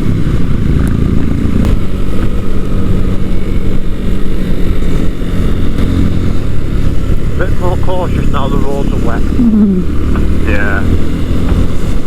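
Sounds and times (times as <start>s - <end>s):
motorcycle engine running: 0.0s - 12.0s
rushing wind noise: 0.0s - 12.0s.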